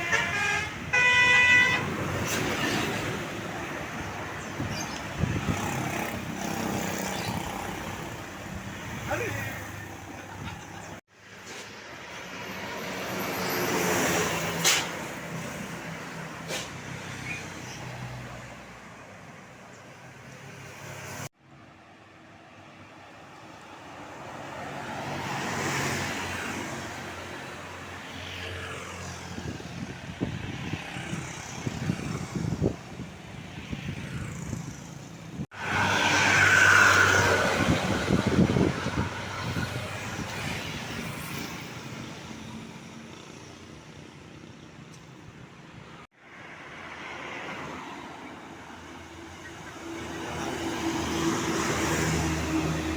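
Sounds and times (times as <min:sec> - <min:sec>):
vehicles driving past: 0:00.0 - 0:52.9.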